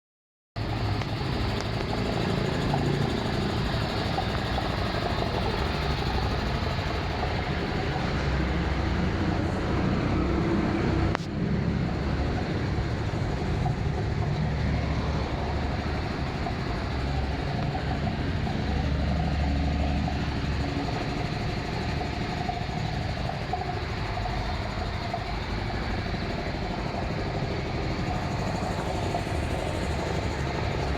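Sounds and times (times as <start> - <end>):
air compressor engine running: 0.6 - 30.9.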